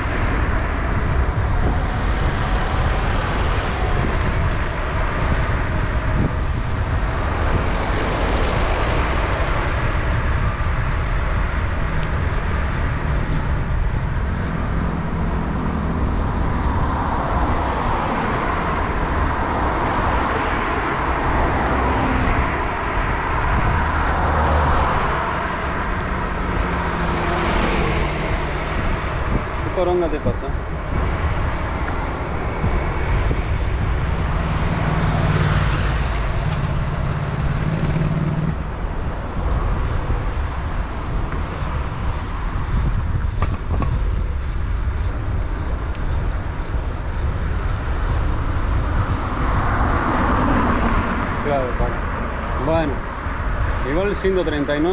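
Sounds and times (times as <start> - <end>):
cars driving past: 0.0 - 54.9
wind on microphone: 0.0 - 54.9.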